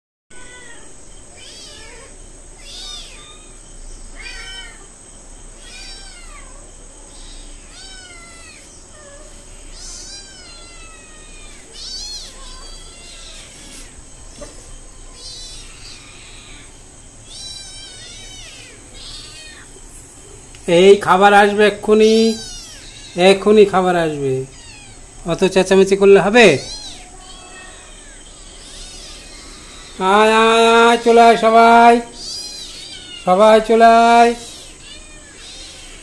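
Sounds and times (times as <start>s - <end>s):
kittens meowing: 0.3s - 36.0s.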